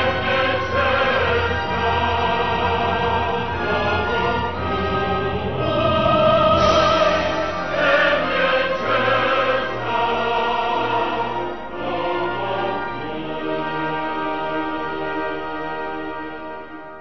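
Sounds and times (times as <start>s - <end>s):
operatic choir singing: 0.0s - 17.0s
orchestra playing: 0.0s - 17.0s.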